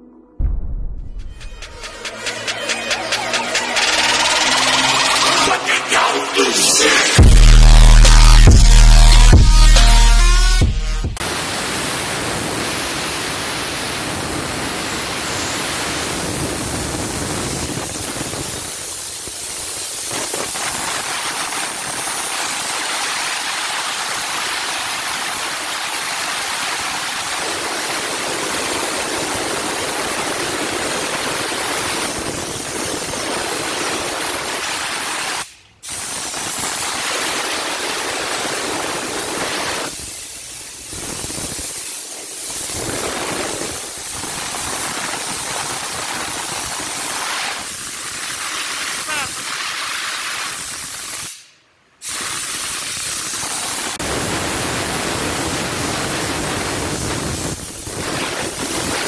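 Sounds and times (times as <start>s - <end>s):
steam wand hissing: 1.9s - 7.3s, 11.2s - 59.0s.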